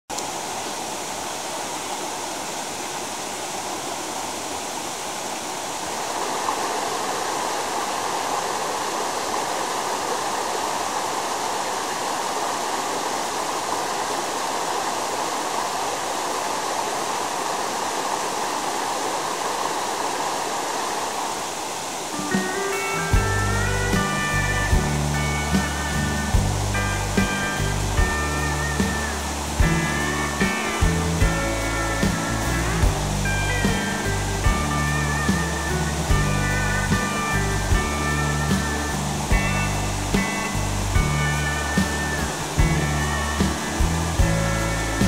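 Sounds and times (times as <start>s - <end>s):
stream water rushing: 0.1s - 45.0s.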